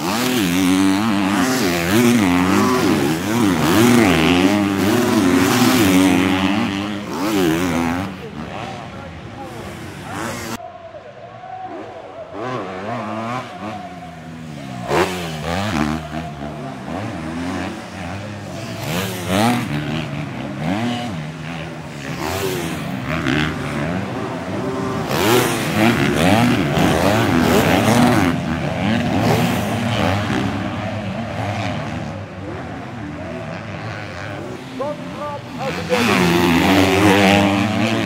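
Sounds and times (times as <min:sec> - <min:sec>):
motocross bikes revving: 0:00.0 - 0:10.6, 0:11.7 - 0:38.0.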